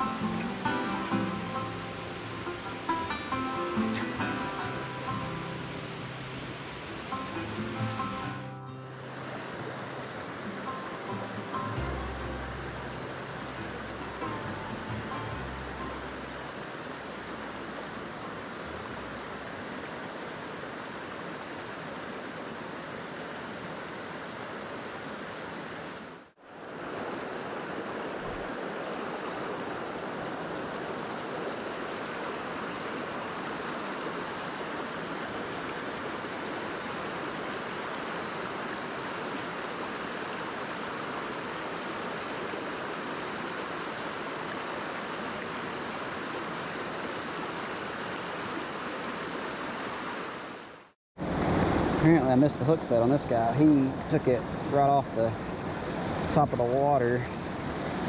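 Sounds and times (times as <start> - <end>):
stream rushing over boulders: 0.0 - 58.0.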